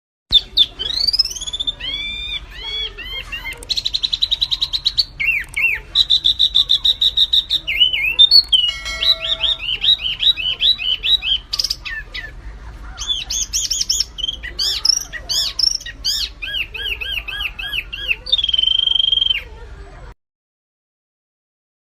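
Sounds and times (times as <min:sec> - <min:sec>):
songbirds singing: 0:00.3 - 0:19.6.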